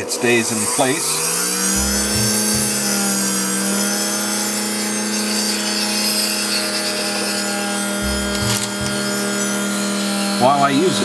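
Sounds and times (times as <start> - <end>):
rotary tool whining: 0.0 - 10.9.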